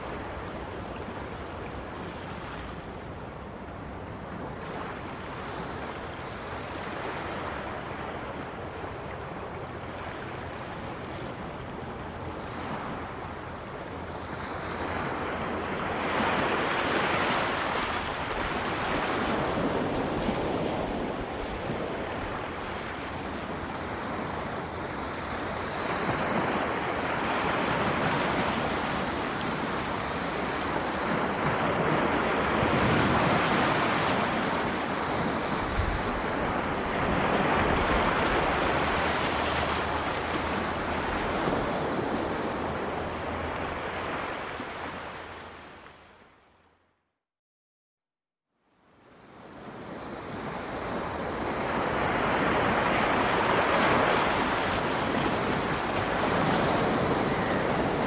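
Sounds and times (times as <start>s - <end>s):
small waves breaking on shore: 0.0s - 46.5s, 49.0s - 58.0s.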